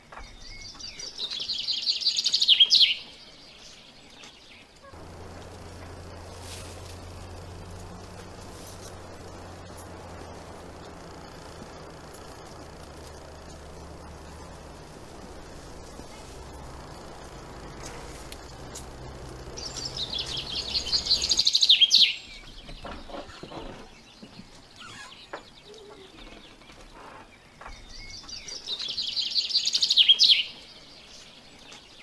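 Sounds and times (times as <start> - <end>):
bird singing trilled phrases: 0.3 - 23.6, 27.8 - 31.4.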